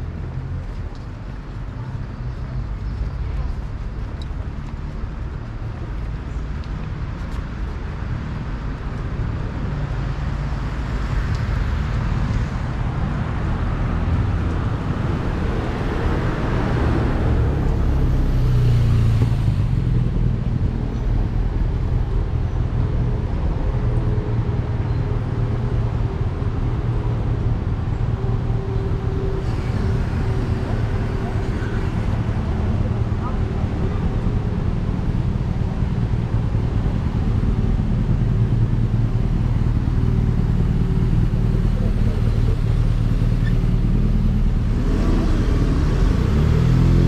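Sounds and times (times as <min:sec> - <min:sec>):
cars driving past: 0:00.0 - 0:47.0.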